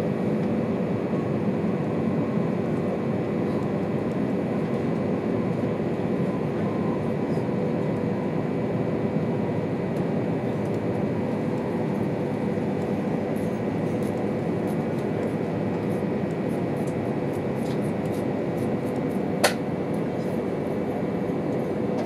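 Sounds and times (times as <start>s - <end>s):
train cabin rumble and hiss: 2.8s - 22.0s.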